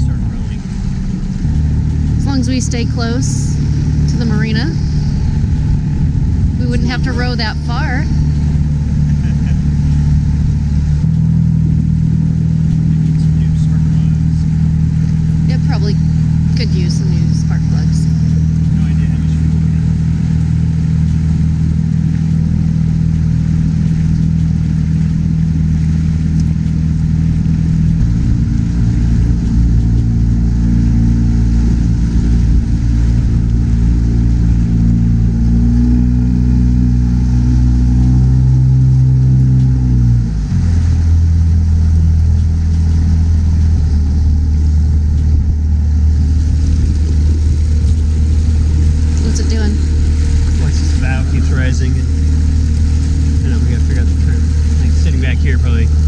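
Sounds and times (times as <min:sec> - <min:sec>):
small outboard motor running: 0:00.0 - 0:56.0.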